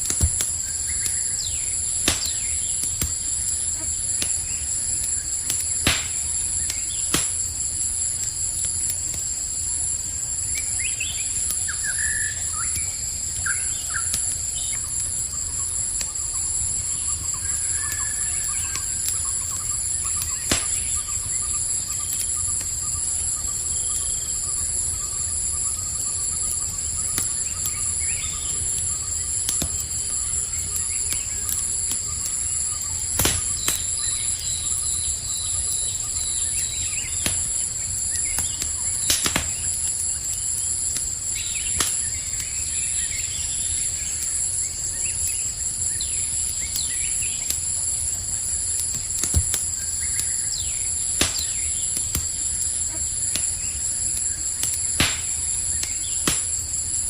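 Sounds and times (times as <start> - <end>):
campfire crackling and popping: 0.0 - 57.0
crickets chorus: 0.0 - 57.0.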